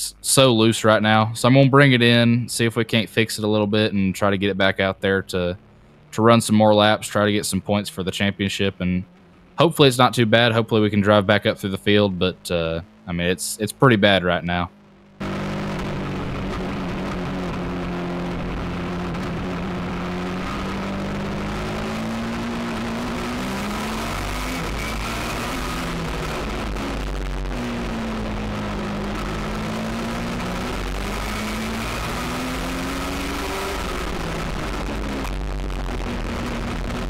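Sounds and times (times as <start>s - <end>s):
motorcycle engine running hard: 5.4s - 37.0s.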